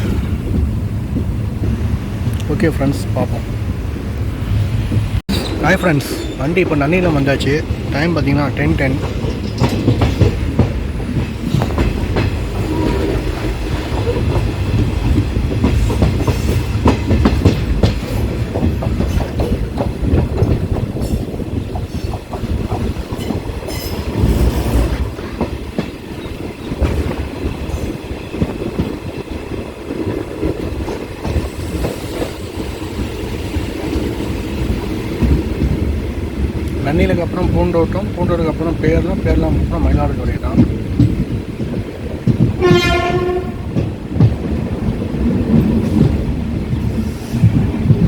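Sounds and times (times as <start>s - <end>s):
train rumbling on rails: 0.0s - 48.0s.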